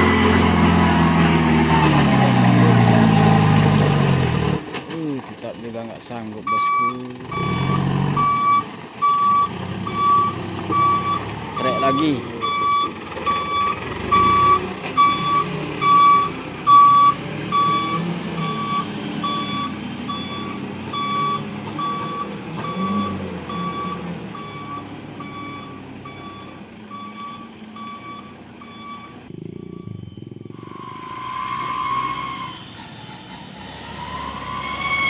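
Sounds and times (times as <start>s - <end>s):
truck reversing alarm beeping: 0.0s - 4.2s, 6.4s - 35.0s
diesel engine running: 0.0s - 34.2s.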